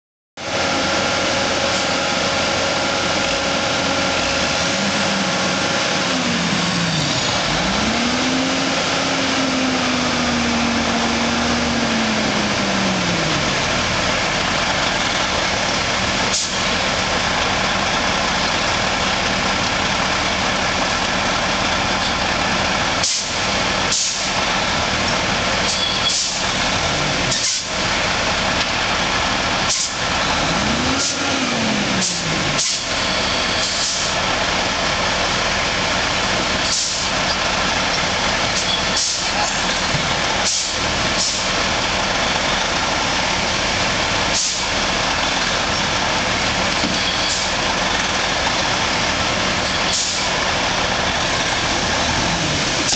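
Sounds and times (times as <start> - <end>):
engine revving: 0.4 - 38.6, 39.2 - 52.9
heavy diesel engines running: 0.4 - 52.9.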